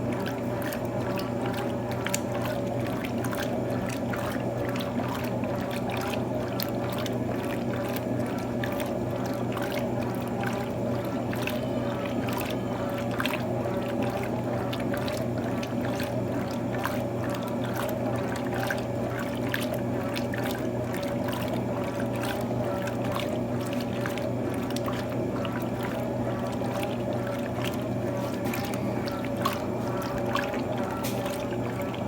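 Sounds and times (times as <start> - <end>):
washing machine motor hum: 0.0 - 32.0
water sloshing in drum: 0.0 - 32.0.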